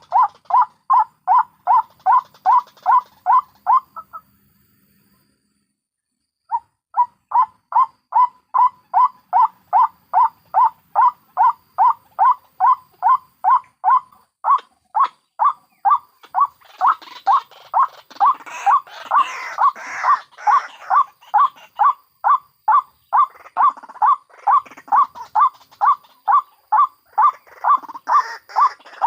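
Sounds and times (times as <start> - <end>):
waterhen calls: 0.0 - 4.3, 6.5 - 29.0
rough chorus of bird calls: 0.0 - 29.0.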